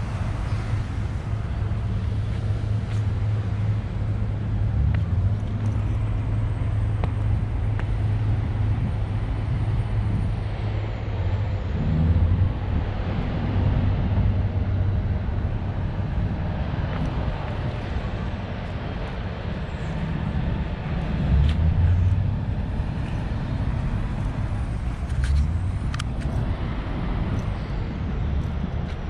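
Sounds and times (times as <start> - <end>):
low rumble of traffic: 0.0 - 29.0
outdoor noise: 0.0 - 29.0.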